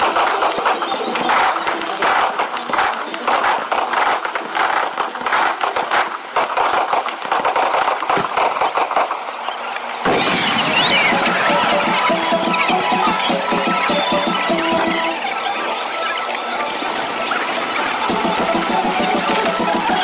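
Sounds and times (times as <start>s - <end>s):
fireworks crackling and popping: 0.0s - 20.0s
fireworks whistling: 0.0s - 20.0s.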